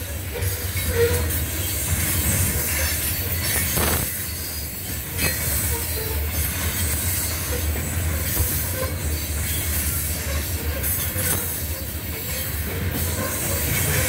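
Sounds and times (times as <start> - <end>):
faint wheel squeals: 0.0 - 14.0
freight train wheels rumbling: 0.0 - 14.0.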